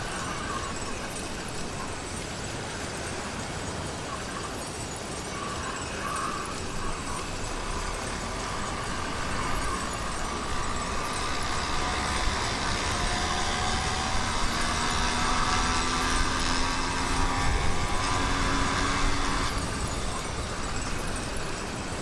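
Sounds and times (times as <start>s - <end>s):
motorized bicycle engine running: 0.0s - 22.0s.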